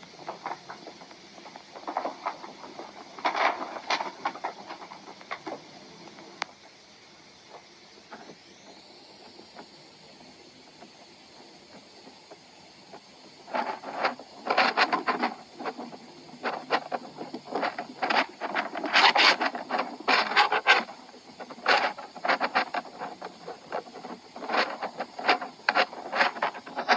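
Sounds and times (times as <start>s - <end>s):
rubbing and scraping noise: 0.0s - 6.6s, 11.7s - 26.9s.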